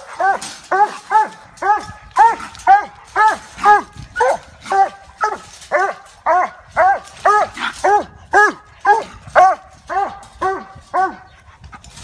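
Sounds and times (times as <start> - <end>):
dog barking: 0.1 - 11.2.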